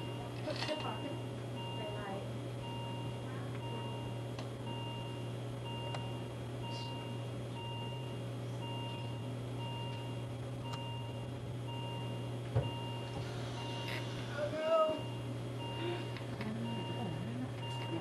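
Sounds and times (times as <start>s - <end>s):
low hum: 0.0s - 18.0s
monitor alarm beeping: 0.0s - 18.0s.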